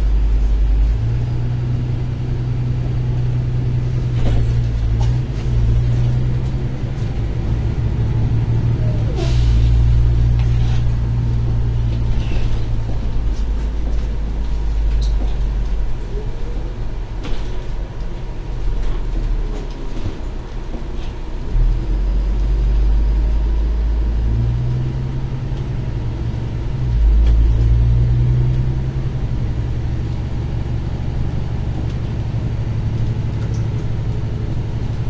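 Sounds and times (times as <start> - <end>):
bus diesel engine hum: 0.0 - 35.0
road rumble: 0.0 - 35.0.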